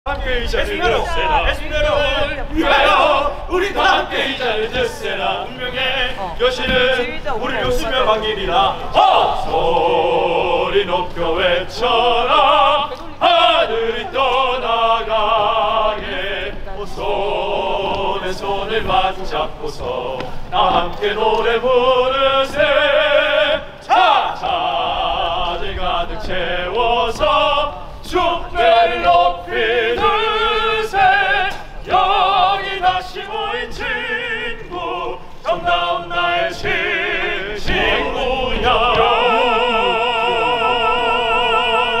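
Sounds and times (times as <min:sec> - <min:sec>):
male choir singing operatically: 0:00.1 - 0:42.0.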